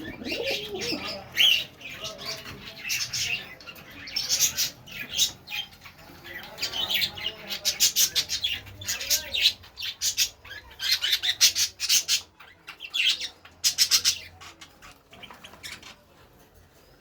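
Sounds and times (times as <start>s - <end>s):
birds squawking and chirping: 0.0s - 17.0s.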